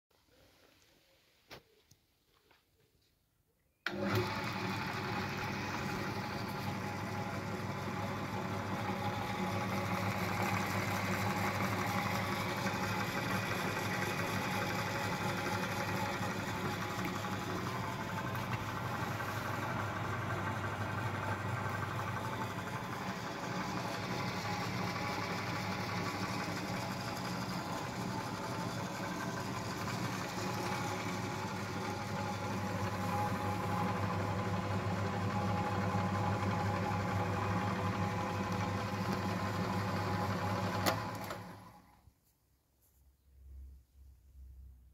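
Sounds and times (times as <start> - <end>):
pillar drill motor humming: 3.8 - 41.7.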